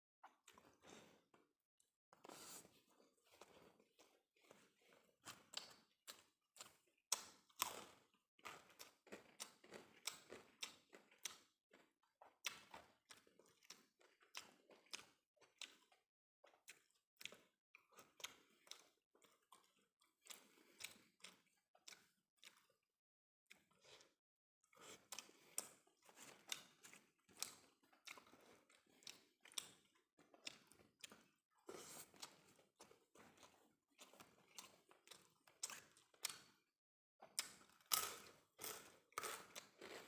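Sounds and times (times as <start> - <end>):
man chewing food: 0.2 - 22.8, 23.5 - 36.6, 37.2 - 40.0.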